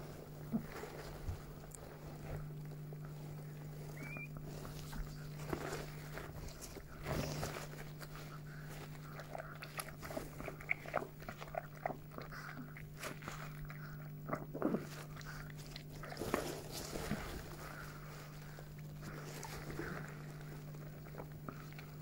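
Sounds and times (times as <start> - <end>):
steady low hum: 0.0 - 22.0
dog licking and chewing: 1.6 - 22.0.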